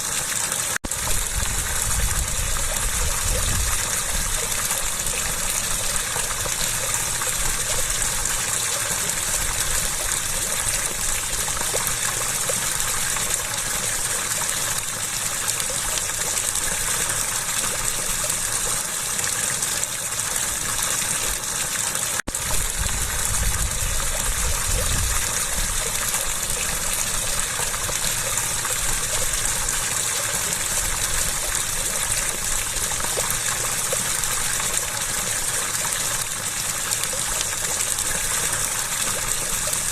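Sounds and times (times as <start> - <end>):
running water gushing: 0.0 - 39.9.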